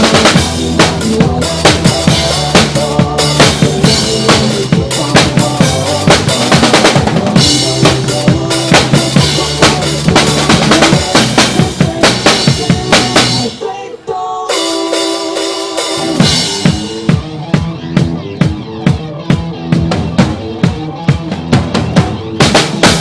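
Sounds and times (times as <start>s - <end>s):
acoustic drum kit beat: 0.0s - 13.8s, 14.5s - 23.0s
backing track chords: 0.0s - 13.9s, 14.5s - 23.0s.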